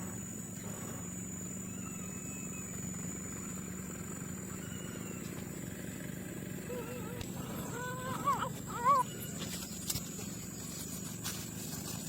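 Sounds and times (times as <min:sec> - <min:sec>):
faint wavering calls: 0:00.0 - 0:05.8, 0:06.5 - 0:11.0
low engine-like hum: 0:00.0 - 0:12.0.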